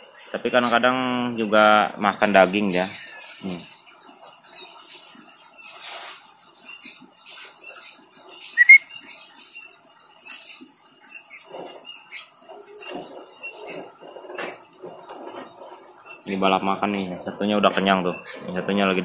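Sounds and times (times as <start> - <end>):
small bird chirping: 0.0 - 14.7, 16.0 - 18.8.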